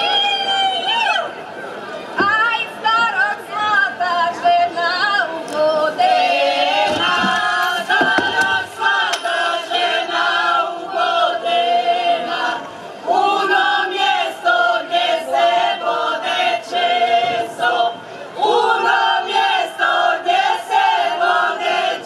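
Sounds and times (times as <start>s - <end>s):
group singing in chorus: 4.2s - 22.0s.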